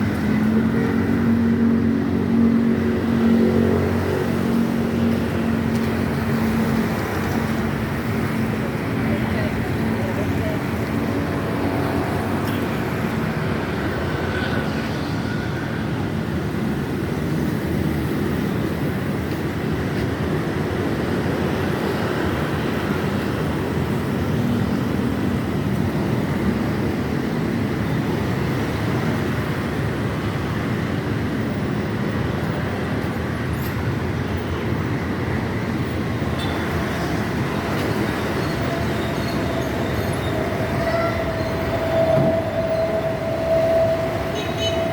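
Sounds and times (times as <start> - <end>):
moving vehicle rumble: 0.0 - 44.9.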